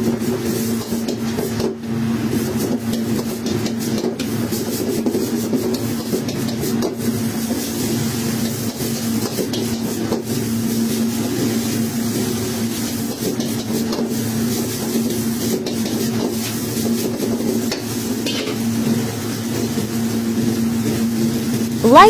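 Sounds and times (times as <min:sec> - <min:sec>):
spatula scraping a pan: 0:00.0 - 0:21.7
mechanical hum: 0:00.0 - 0:22.0
rice sizzling in a wok: 0:00.0 - 0:22.0.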